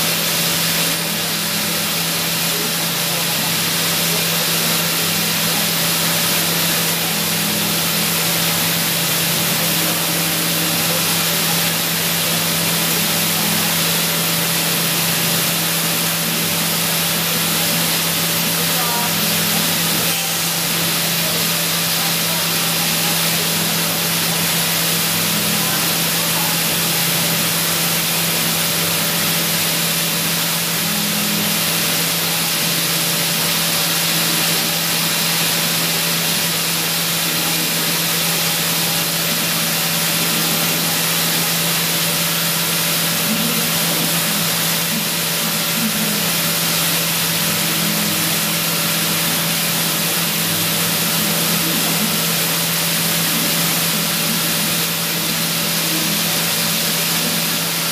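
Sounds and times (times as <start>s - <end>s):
milling machine whirring and hissing: 0.0s - 57.9s.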